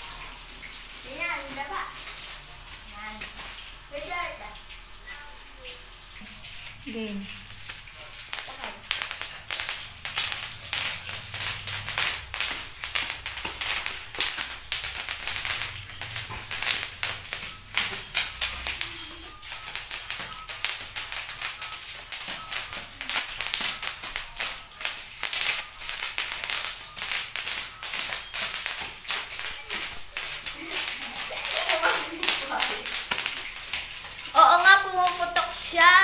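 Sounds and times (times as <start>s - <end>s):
bubble wrap popping under feet: 6.2s - 36.0s.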